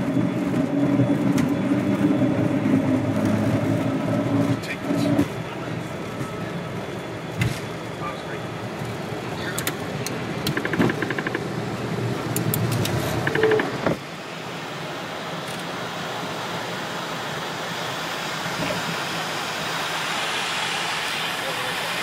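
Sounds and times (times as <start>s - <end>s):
aircraft engine noise: 0.0s - 22.0s
wheels rumbling on runway: 0.0s - 22.0s
engine and airflow hiss: 3.9s - 22.0s.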